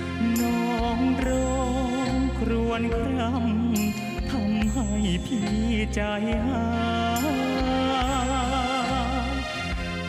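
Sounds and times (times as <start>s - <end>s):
man singing a ballad: 0.0s - 9.8s
band accompaniment: 0.0s - 10.0s.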